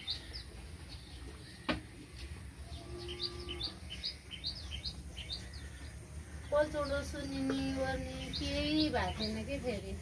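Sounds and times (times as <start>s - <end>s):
low background hum: 0.0s - 10.0s
small birds chirping: 0.0s - 10.0s.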